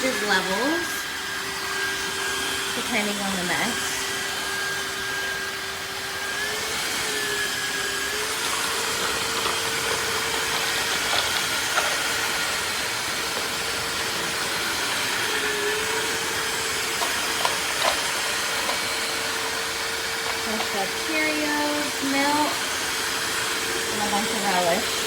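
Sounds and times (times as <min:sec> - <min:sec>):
vacuum mop motor whine: 0:00.0 - 0:25.0.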